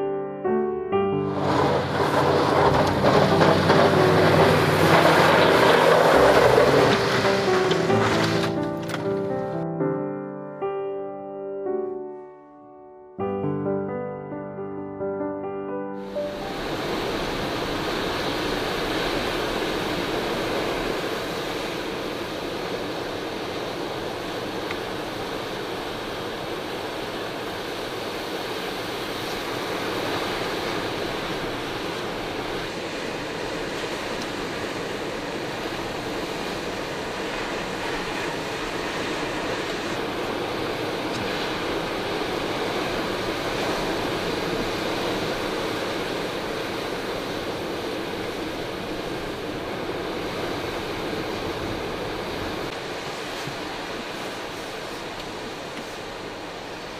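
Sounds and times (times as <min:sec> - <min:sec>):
blizzard wind: 0:00.0 - 0:09.6, 0:16.0 - 0:56.9
surf: 0:00.9 - 0:10.1, 0:16.0 - 0:56.9.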